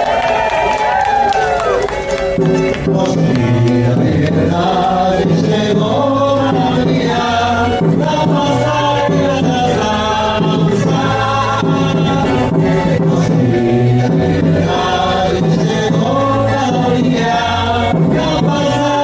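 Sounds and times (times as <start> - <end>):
low repeating bass line: 1.7 - 19.0
voices singing together: 2.5 - 19.0.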